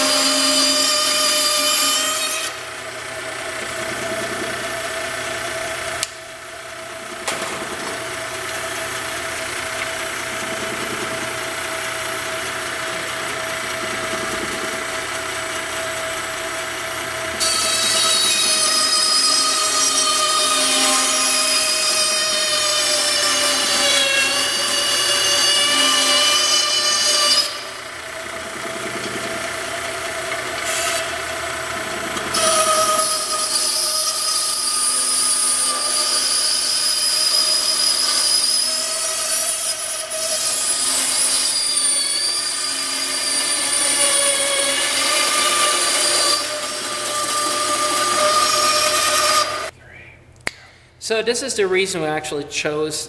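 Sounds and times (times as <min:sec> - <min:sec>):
band saw cutting plastic: 0:00.0 - 0:06.2, 0:06.8 - 0:49.7.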